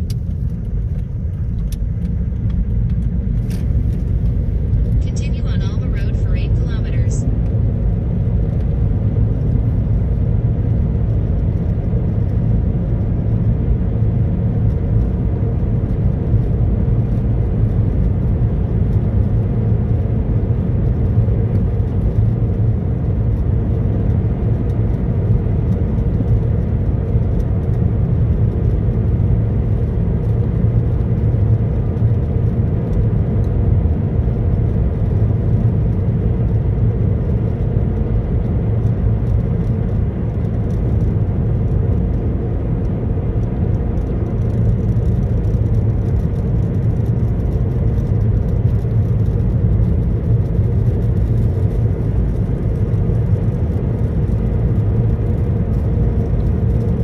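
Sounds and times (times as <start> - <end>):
car cabin road and engine drone: 0.0 - 57.0.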